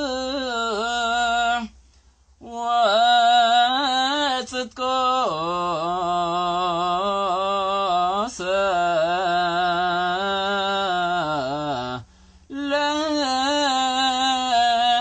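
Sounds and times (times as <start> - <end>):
person singing liturgical chant: 2.4 - 15.0.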